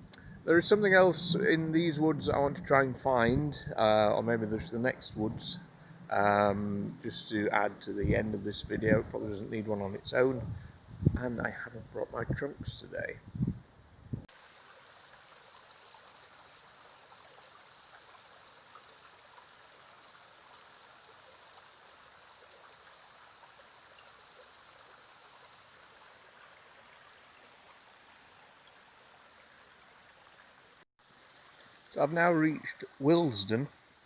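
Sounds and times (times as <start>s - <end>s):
stream running over rocks: 0.1s - 8.6s, 14.3s - 34.0s.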